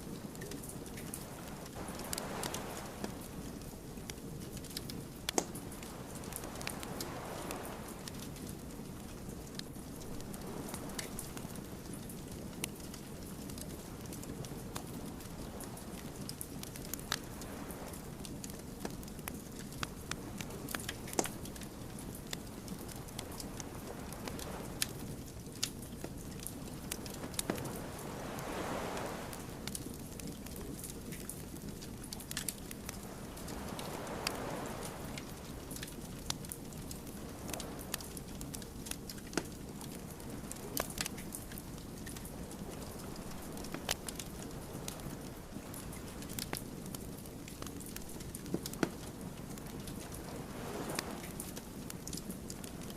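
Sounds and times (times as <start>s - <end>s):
low rumble of flame: 0.0s - 52.9s
wood fire crackling: 0.0s - 52.9s.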